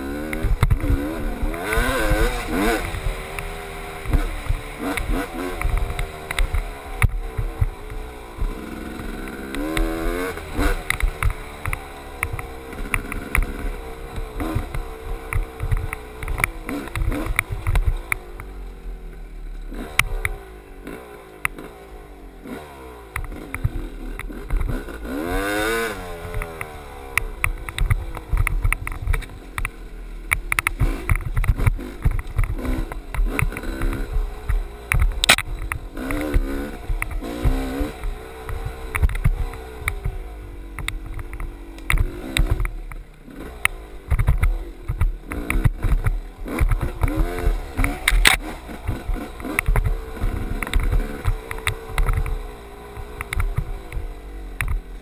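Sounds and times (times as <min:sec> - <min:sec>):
bike knocking and rattling over bumps: 0:00.0 - 0:55.0
dirt bike engine revving: 0:00.0 - 0:55.0.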